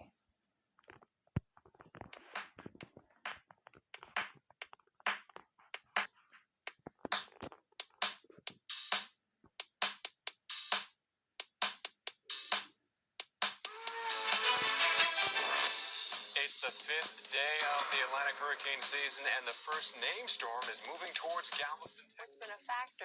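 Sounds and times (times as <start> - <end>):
electronic music with drum beat: 2.0 - 6.1, 6.8 - 12.6, 13.2 - 23.0.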